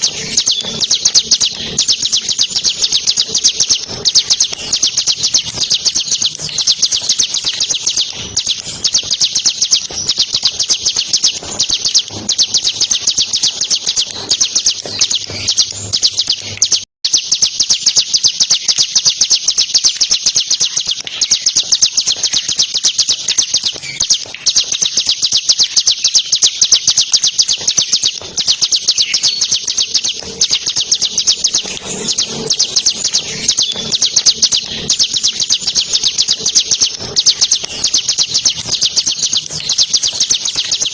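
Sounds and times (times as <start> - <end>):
bird singing rattling trill: 0.0 - 40.9.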